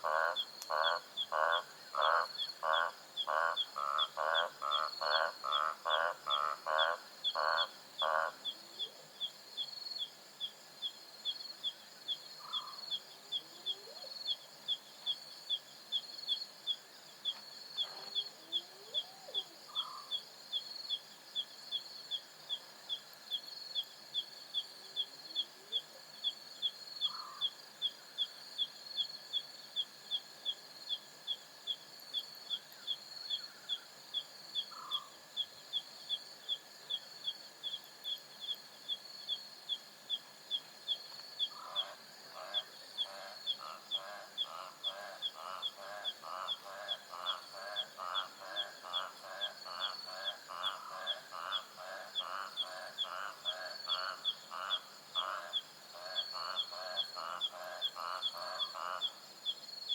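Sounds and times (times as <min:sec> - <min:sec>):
high insect trill: 0:00.0 - 0:59.9
insect chirping: 0:00.0 - 0:59.9.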